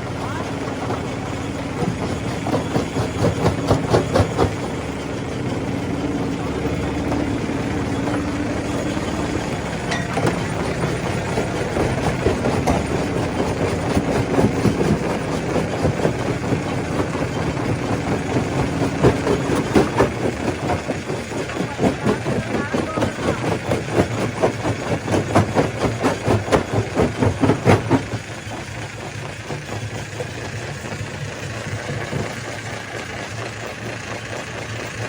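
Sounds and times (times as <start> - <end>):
stone crusher running: 0.0 - 35.0.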